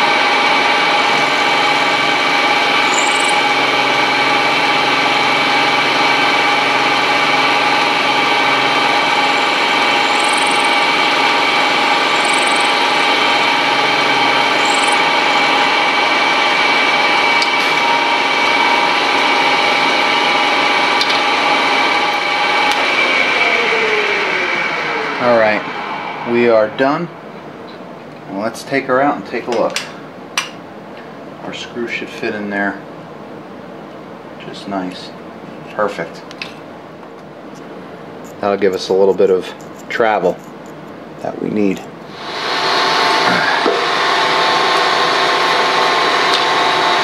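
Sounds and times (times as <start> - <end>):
milling machine whine: 0.0 - 29.2, 36.9 - 47.0.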